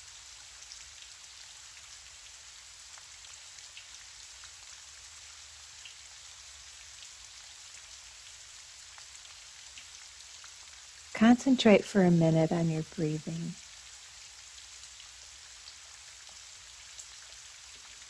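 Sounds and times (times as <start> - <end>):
faint raindrop ticks: 0.0 - 6.1, 7.8 - 18.0
gentle rain hiss: 0.0 - 18.0.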